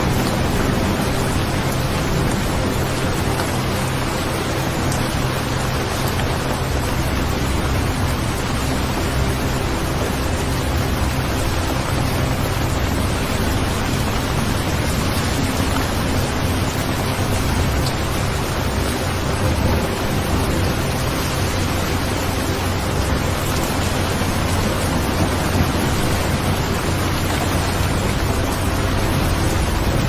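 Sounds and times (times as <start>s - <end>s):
low rumble: 0.0s - 30.0s
steady rain: 0.0s - 30.0s.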